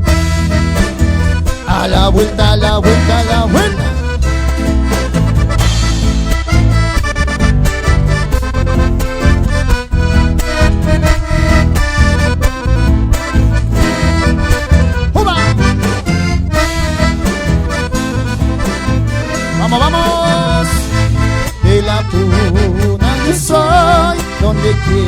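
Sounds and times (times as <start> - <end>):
accordion: 0.0 - 25.0
bass: 0.0 - 25.0
steady drum beat: 0.0 - 25.0.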